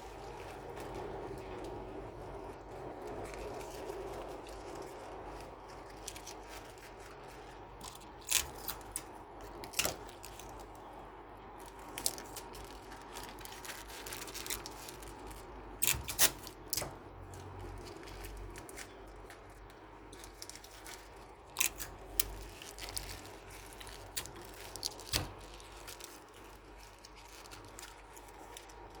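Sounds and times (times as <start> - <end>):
paper crinkling: 0.0 - 29.0.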